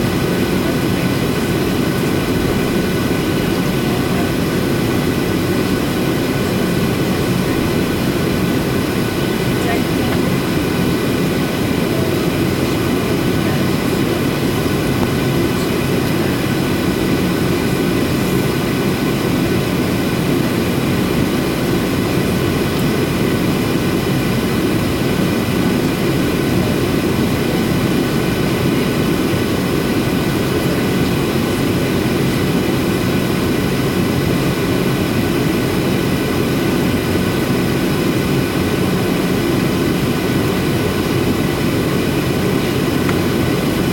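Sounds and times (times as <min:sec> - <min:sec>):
high engine whine: 0:00.0 - 0:43.9
jet engines roaring: 0:00.0 - 0:43.9.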